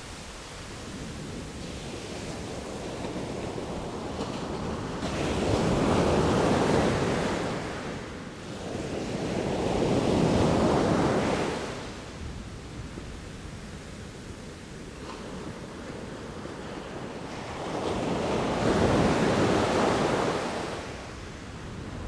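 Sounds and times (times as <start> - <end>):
ocean surf waves breaking: 0.0 - 11.9, 15.0 - 22.0.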